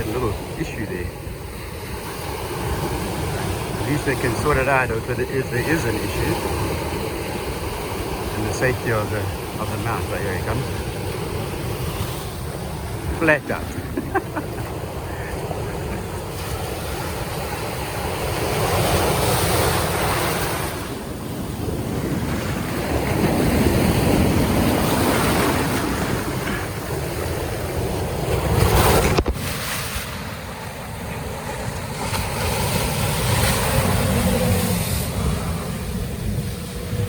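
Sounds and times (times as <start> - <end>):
ocean surf breaking: 0.0 - 37.0
wind rumbling on microphone: 0.0 - 37.0.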